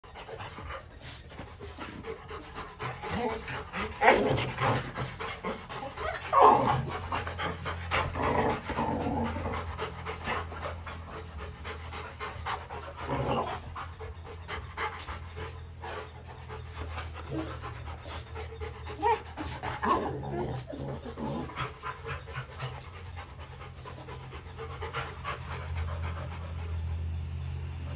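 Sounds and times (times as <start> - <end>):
dogs panting: 0.0 - 27.9.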